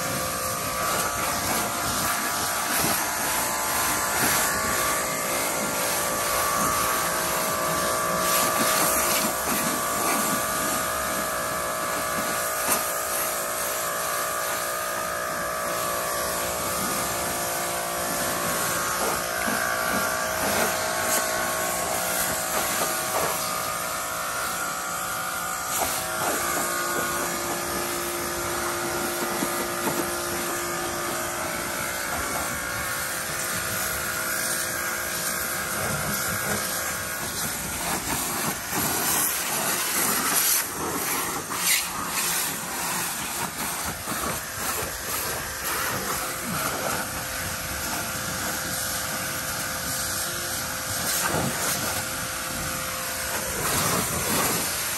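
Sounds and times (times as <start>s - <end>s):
high-pressure water jet spraying: 0.0s - 54.9s
pressure washer motor whine: 0.0s - 54.9s.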